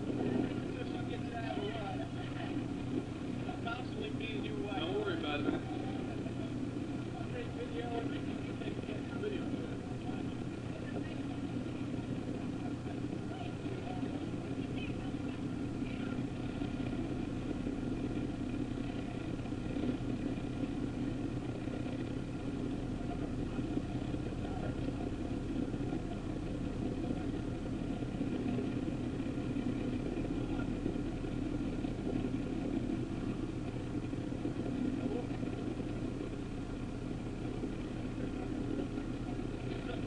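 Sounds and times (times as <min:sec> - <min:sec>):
boat engine droning: 0:00.0 - 0:40.0
wind: 0:00.0 - 0:40.0.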